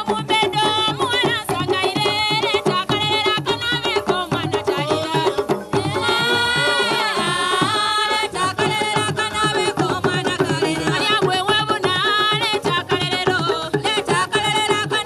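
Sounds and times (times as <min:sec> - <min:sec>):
drums beating fast rhythm: 0:00.0 - 0:15.0
group singing: 0:00.1 - 0:14.8.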